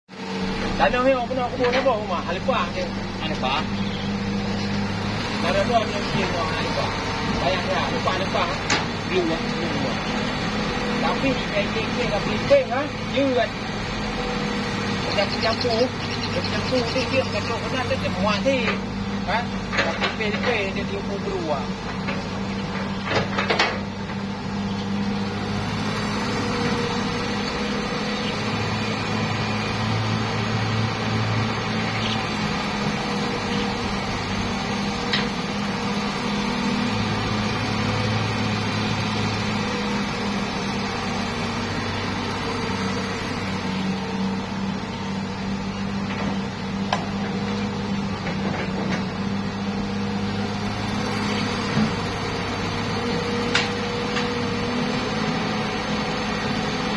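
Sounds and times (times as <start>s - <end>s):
excavator diesel engine: 0.1s - 56.9s.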